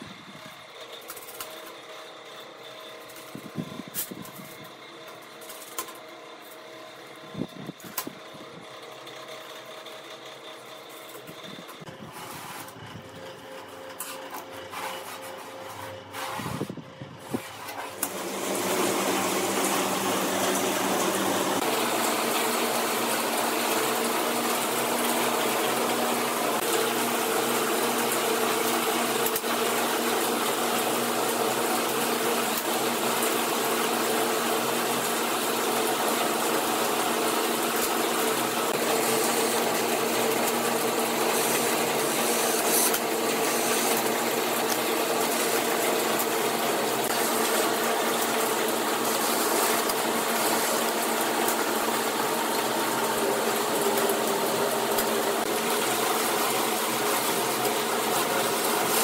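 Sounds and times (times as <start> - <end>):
loud machine noise with hum: 0.0 - 59.0.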